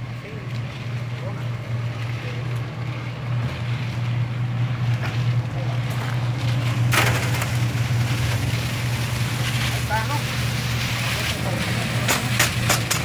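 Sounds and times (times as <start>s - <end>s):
concrete mixer motor hum: 0.0s - 13.0s
mixer drum gritty rattle: 0.0s - 13.0s.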